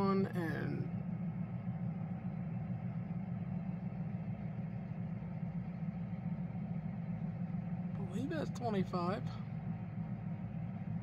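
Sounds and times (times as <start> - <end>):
car engine hum: 0.0 - 11.0.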